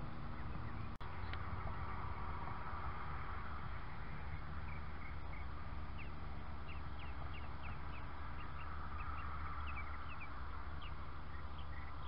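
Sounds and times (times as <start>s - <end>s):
birds chirping: 0.0s - 2.6s, 3.3s - 12.0s
steady low rumble: 0.0s - 12.0s.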